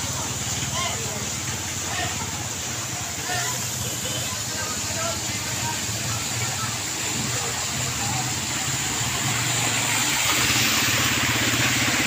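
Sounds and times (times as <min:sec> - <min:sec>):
hiss of water: 0:00.0 - 0:12.0
motorcycle engine running: 0:00.0 - 0:12.0.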